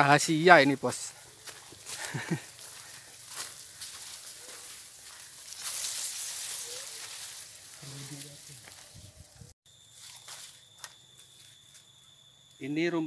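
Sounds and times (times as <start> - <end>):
grass and reeds rustling: 0.0 - 10.6
high-pitched insect drone: 0.0 - 13.0.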